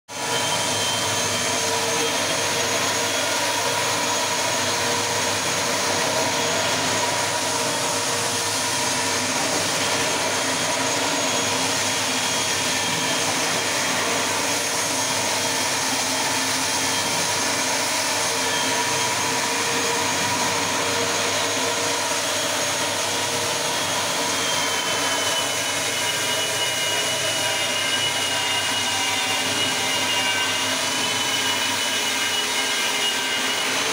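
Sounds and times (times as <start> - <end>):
floor polishing machine whining: 0.1 - 33.9.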